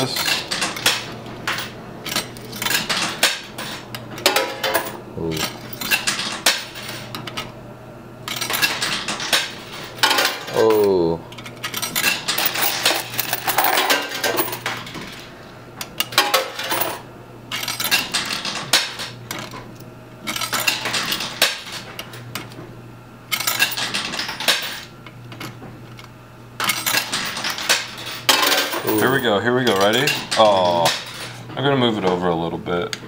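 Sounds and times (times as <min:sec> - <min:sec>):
coins clinking and clattering: 0:00.0 - 0:07.5, 0:08.3 - 0:15.3, 0:16.0 - 0:19.6, 0:20.3 - 0:22.5, 0:23.3 - 0:26.0, 0:26.6 - 0:31.4
low steady machine hum: 0:00.0 - 0:33.0.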